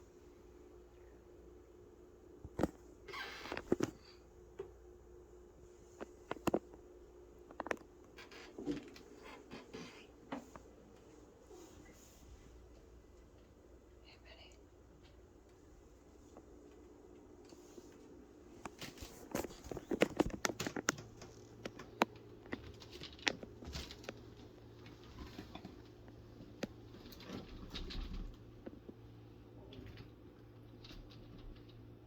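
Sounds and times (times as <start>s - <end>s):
faint steady low hum: 0.0s - 32.0s.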